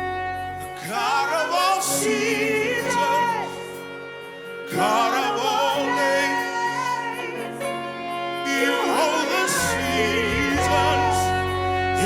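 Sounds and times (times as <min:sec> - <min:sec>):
person singing with vibrato: 0:00.0 - 0:12.0
sustained keyboard chords: 0:00.0 - 0:12.0.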